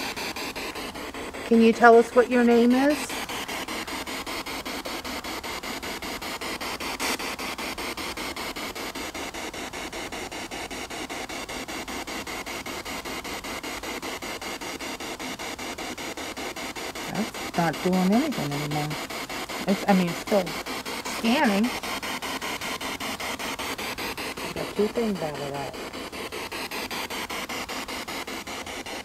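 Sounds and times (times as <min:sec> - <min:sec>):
radio static: 0:00.0 - 0:29.0
rapid even clicks: 0:00.0 - 0:29.0.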